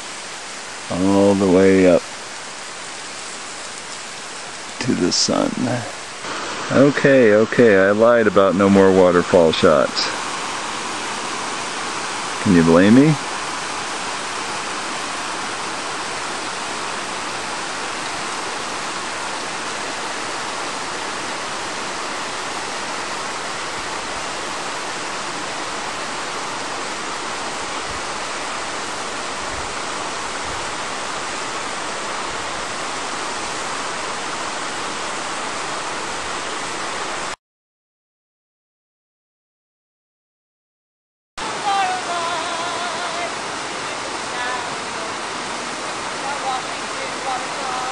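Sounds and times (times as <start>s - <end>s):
waterfall rushing: 0.0s - 37.4s, 41.4s - 47.9s.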